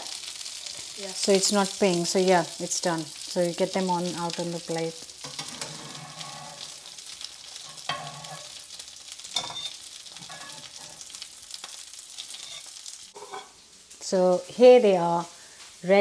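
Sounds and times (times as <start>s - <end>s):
chicken sizzling in frying pan: 0.0s - 16.0s.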